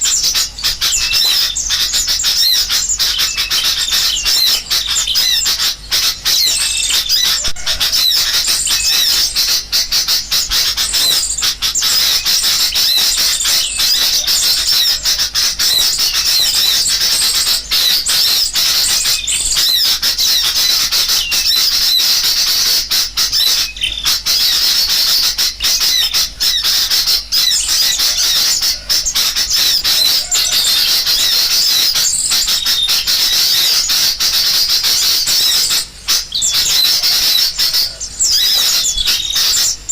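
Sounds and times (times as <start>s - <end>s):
bulbuls calling noisily: 0.0s - 39.9s
small birds twittering: 0.0s - 39.9s.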